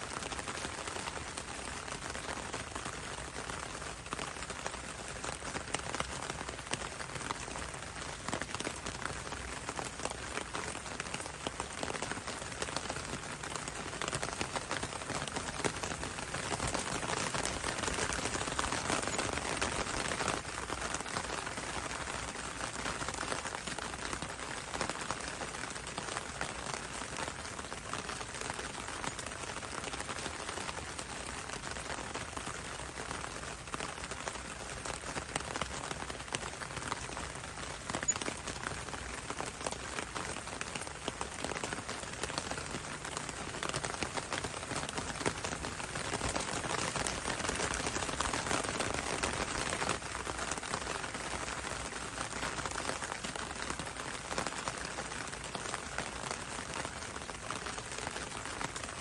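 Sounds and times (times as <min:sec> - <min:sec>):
rain dripping on leaves: 0:00.0 - 0:59.0.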